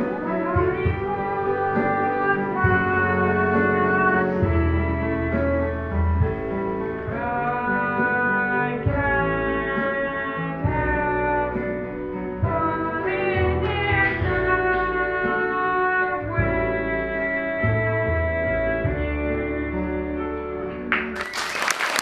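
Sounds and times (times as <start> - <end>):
instrumental backing with bass: 0.0 - 22.0.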